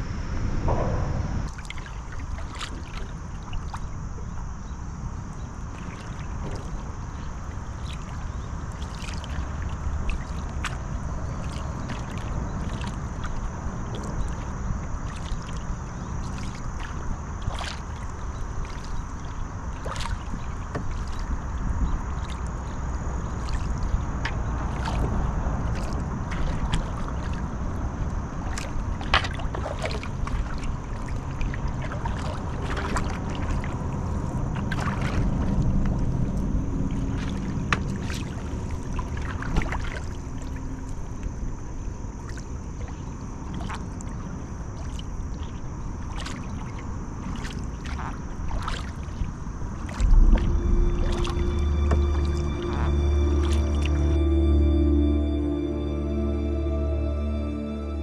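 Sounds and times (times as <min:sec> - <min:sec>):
low rumble: 0:00.0 - 0:17.4, 0:18.0 - 0:43.4, 0:49.2 - 0:58.0
paddle splashes and drips: 0:00.7 - 0:54.4.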